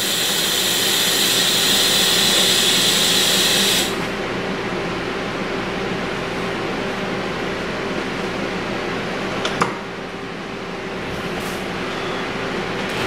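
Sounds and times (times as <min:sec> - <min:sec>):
fan hum: 0:00.0 - 0:13.0.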